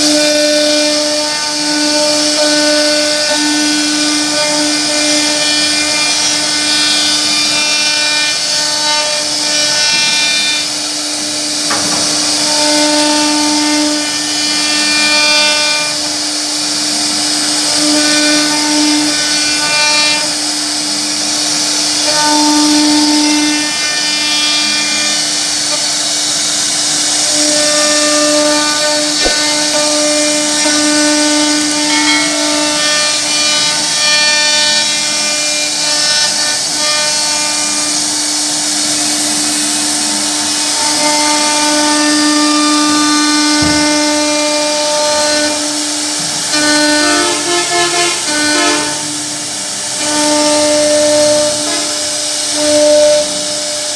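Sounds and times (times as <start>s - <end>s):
hiss of bit cutting wood: 0.0s - 53.9s
wood router spindle whine: 0.0s - 53.9s.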